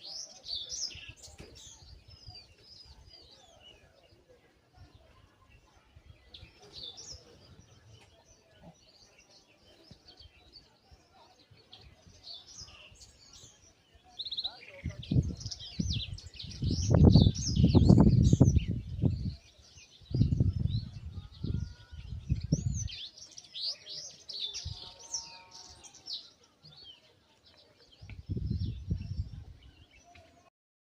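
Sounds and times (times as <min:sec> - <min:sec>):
small birds chirping: 0:00.0 - 0:30.5.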